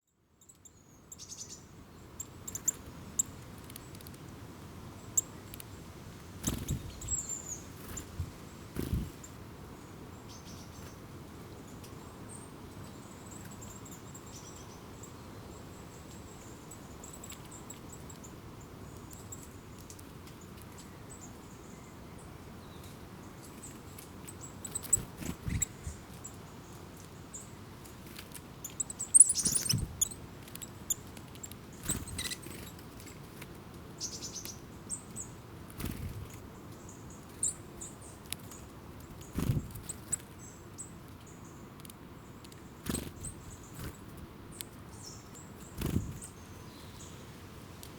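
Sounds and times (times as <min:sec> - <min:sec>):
soft background hiss: 0:00.1 - 0:47.9
small birds chirping: 0:00.3 - 0:04.2, 0:04.9 - 0:47.9.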